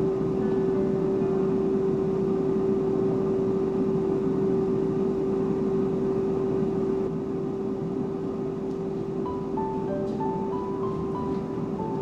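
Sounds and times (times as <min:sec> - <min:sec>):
air fryer fan whirring: 0:00.0 - 0:12.0.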